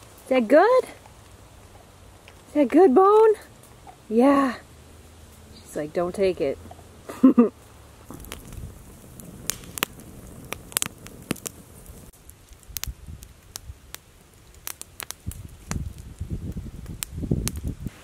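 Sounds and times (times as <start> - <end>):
campfire crackling and popping: 0.0 - 18.0
low rumble of wind: 0.0 - 18.0.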